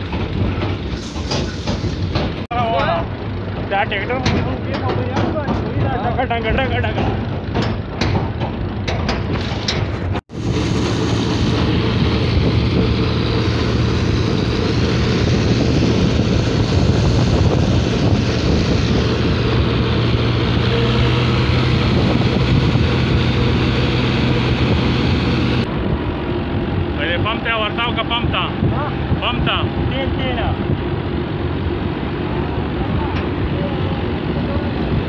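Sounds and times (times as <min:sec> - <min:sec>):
road and wind noise: 0:00.0 - 0:35.0
vehicle engine humming: 0:00.0 - 0:35.0.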